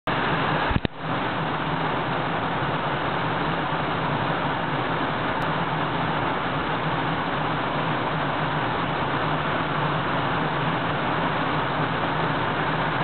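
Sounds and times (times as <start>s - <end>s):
rushing whitewater rapids: 0.1s - 13.0s.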